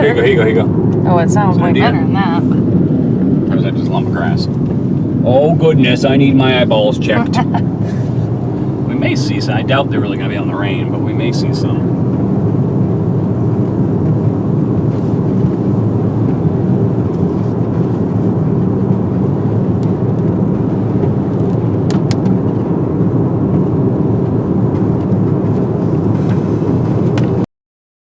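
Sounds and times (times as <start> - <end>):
car cabin road and engine noise: 0.0 - 27.4.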